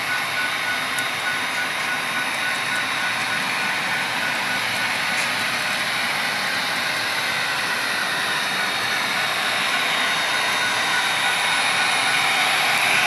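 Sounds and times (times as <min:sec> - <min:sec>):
model locomotives whirring: 0:00.0 - 0:13.0.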